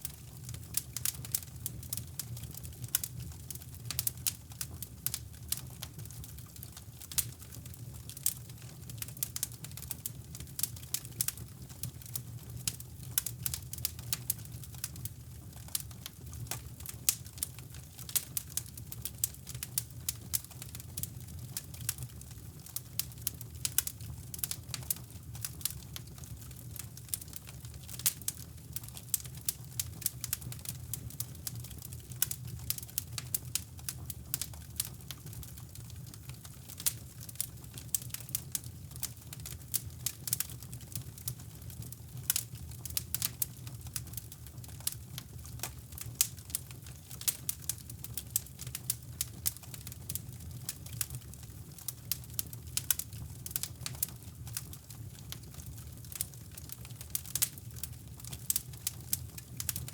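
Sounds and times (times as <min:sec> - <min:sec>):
fire pops and snaps: 0:00.0 - 0:59.9
low fire rumble: 0:00.0 - 0:59.9
wood fire crackling: 0:00.0 - 0:59.9.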